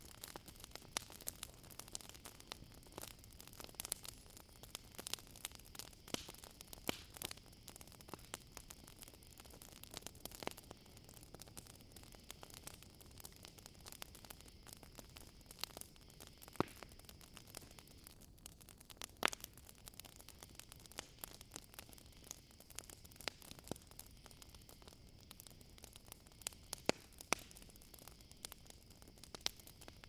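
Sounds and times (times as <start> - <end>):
campfire crackling and popping: 0.0 - 30.0
crickets trilling: 0.0 - 30.0.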